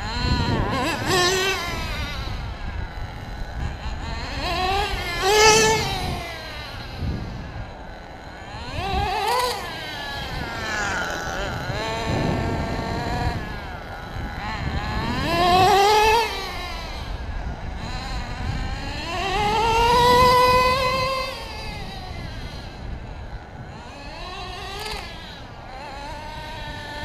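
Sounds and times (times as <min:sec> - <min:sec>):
rc truck engine revving: 0:00.0 - 0:27.0.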